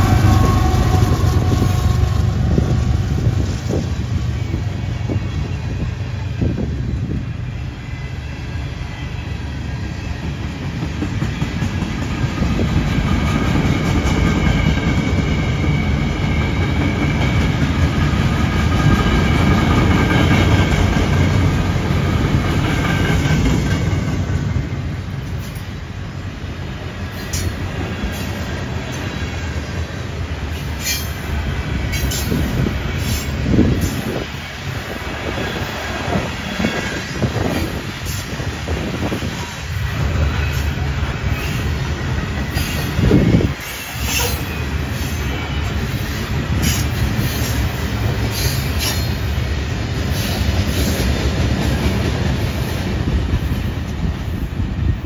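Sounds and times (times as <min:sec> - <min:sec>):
diesel locomotive engine: 0:00.0 - 0:55.0
steel train wheels rumbling on rails: 0:00.0 - 0:55.0.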